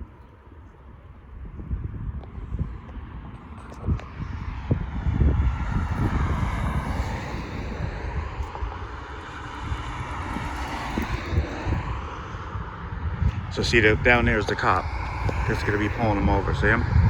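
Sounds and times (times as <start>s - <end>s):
wind rumbling on microphone: 0.0s - 17.0s
passing engine drone: 0.4s - 17.0s.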